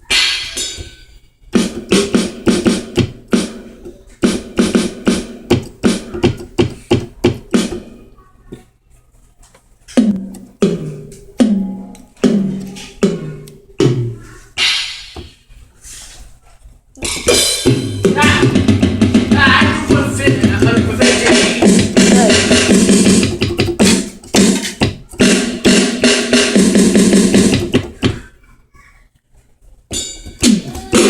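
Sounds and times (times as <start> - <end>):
electronic keyboard percussive hits: 0.0 - 8.0, 10.0 - 15.4, 17.0 - 28.2, 29.9 - 31.0.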